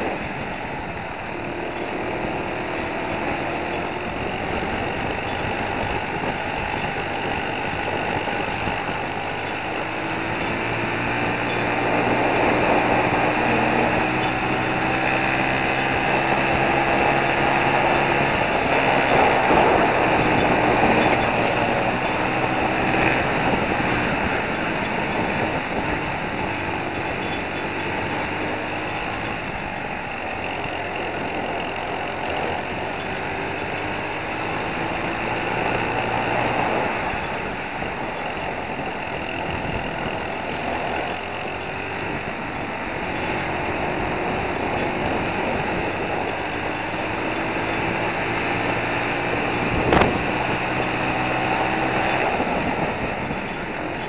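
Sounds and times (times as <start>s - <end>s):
kart engine at full throttle: 0.0s - 54.0s.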